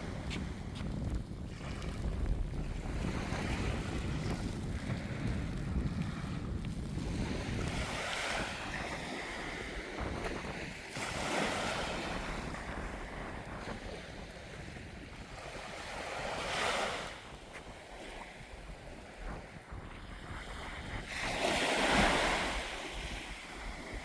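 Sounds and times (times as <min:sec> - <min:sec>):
wind buffeting microphone: 0:00.0 - 0:24.0
sea waves breaking on beach: 0:01.4 - 0:24.0.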